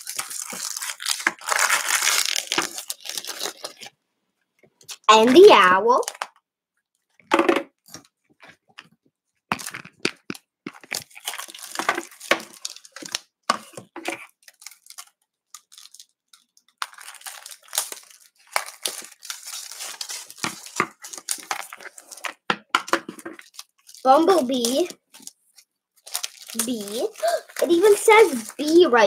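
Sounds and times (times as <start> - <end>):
plastic wrap crinkling: 0.0 - 4.0, 4.7 - 6.4, 9.5 - 29.0.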